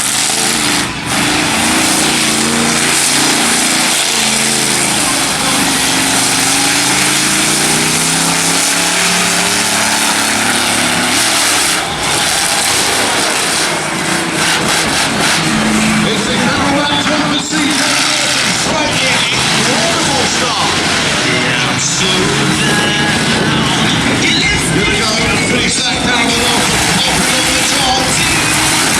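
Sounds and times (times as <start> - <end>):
loud rushing noise: 0.0 - 28.9
truck engine revving: 0.0 - 28.9.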